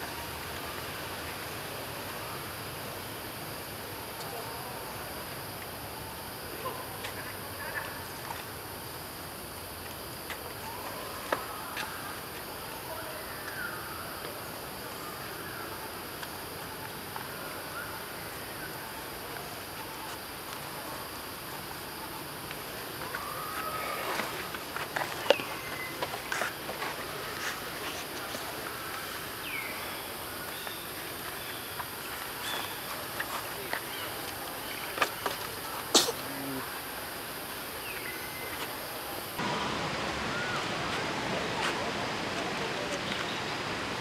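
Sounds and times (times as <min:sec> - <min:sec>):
steady forest hiss: 0:00.0 - 0:44.0.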